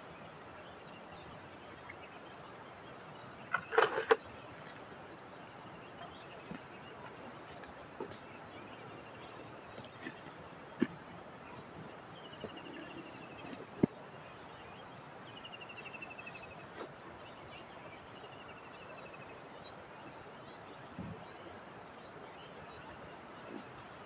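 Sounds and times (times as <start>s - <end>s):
rural background noise: 0.0s - 24.0s.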